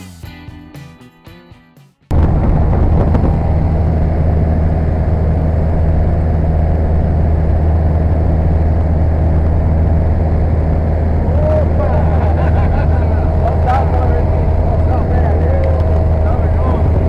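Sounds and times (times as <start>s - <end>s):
small aircraft engine drone: 2.1s - 17.0s.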